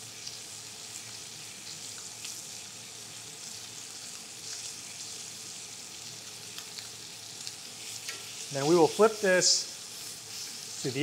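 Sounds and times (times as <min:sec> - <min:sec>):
steaks sizzling in a pan: 0:00.0 - 0:11.0.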